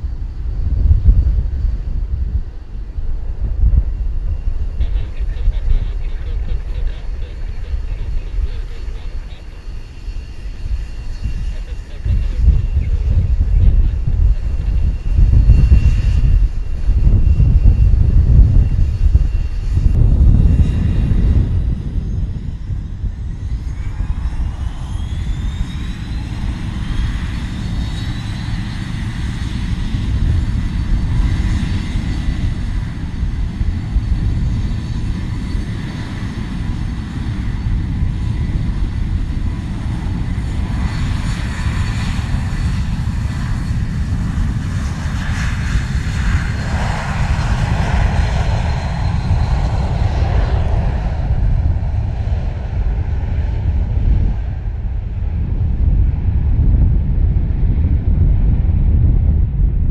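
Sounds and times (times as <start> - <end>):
deep engine rumble: 0.0 - 59.9
jet engines whining: 0.0 - 59.9.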